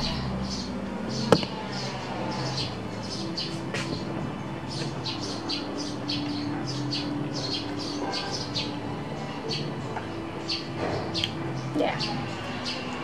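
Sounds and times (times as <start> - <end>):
small birds chirping rapidly: 0.0 - 13.0.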